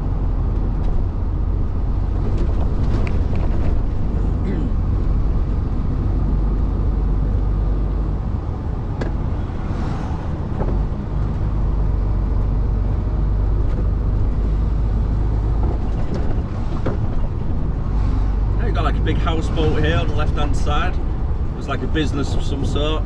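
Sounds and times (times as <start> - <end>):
lorry engine and tyre rumble: 0.0 - 23.0.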